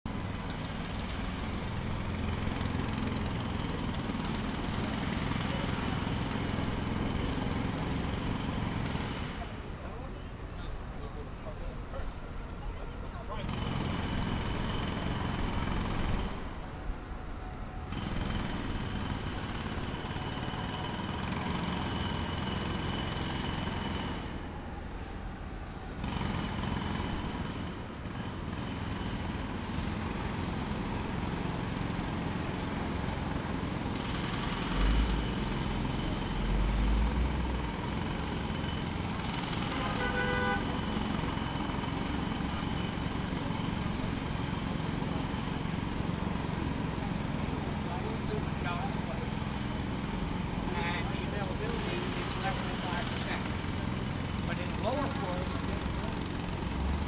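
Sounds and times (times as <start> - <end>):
jackhammer pounding: 0.1 - 10.1, 13.4 - 16.8, 17.9 - 24.8, 26.0 - 57.0.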